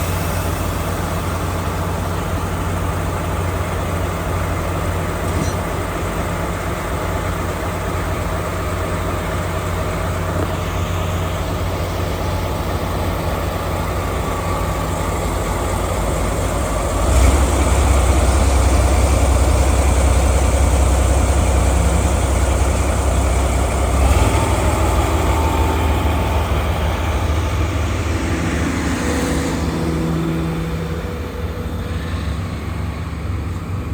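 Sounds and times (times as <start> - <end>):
diesel locomotive engine idling: 0.0 - 33.9
locomotive throttling up: 0.0 - 33.9.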